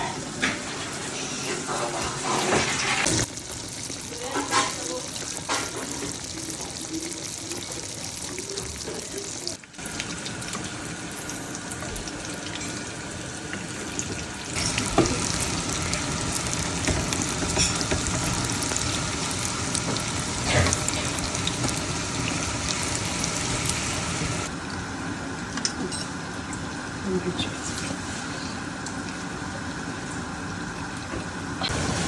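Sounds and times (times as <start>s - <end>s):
dough deep-frying in hot oil: 0.4s - 32.0s.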